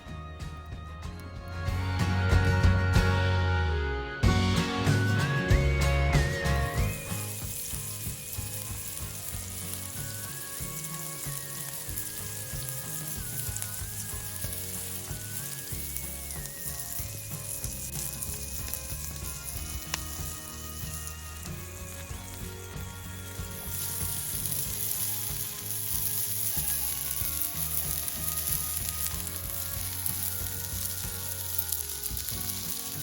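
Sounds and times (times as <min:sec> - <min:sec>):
soft background music: 0:00.0 - 0:33.0
food sizzling over a campfire: 0:06.2 - 0:33.0.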